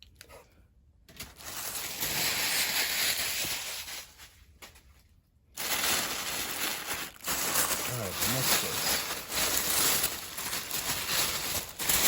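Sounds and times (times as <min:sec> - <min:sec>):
packing paper rustling: 0:01.1 - 0:04.9, 0:05.6 - 0:12.0.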